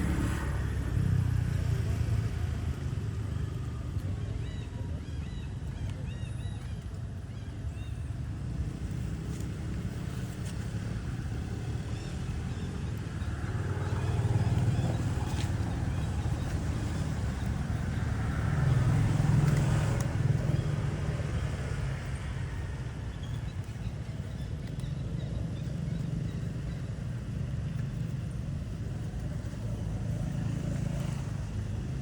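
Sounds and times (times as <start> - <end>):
motor traffic rumble: 0.0 - 32.0
vehicles passing: 0.0 - 32.0.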